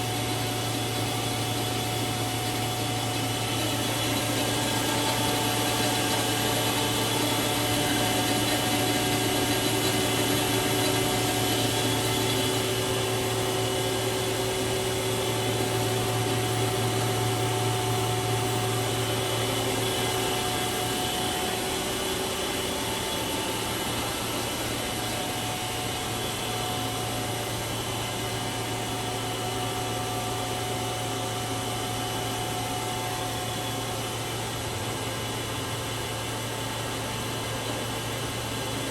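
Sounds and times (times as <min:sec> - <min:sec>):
lathe machine hum with whining tones: 0:00.0 - 0:38.9.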